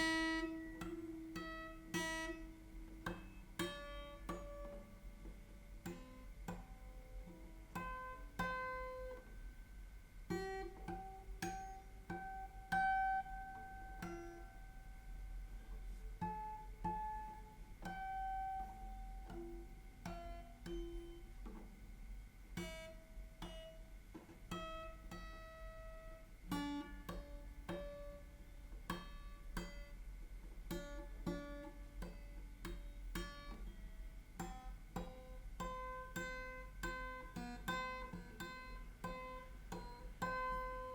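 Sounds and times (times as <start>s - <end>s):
fingerpicked acoustic guitar: 0.0s - 40.9s.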